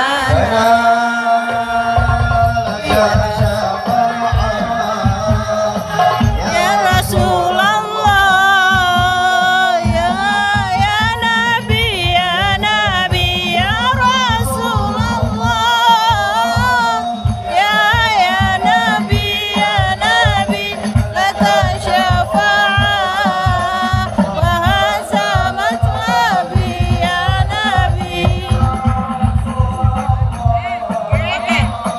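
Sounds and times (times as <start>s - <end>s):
fast percussion beat: 0.0s - 31.9s
person singing devotional song: 0.0s - 31.9s.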